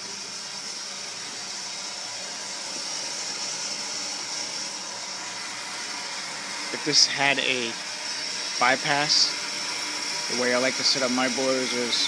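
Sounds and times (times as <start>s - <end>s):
water hissing into boiler: 0.0s - 12.0s.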